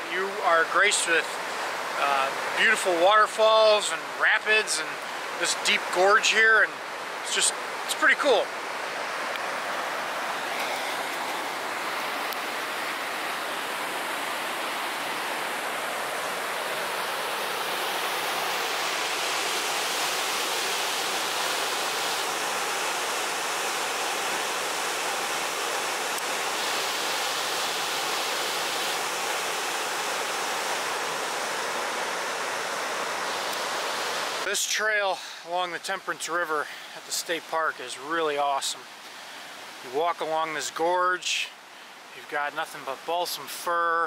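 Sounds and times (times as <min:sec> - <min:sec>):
river rapids and waterfall rushing: 0:00.0 - 0:44.0.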